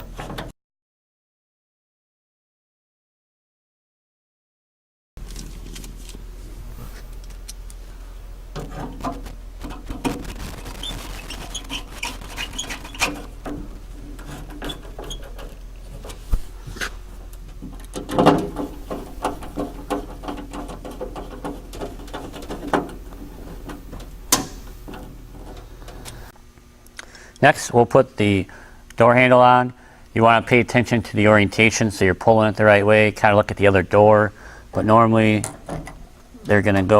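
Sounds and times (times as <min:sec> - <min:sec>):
steady low hum: 0:05.2 - 0:36.9.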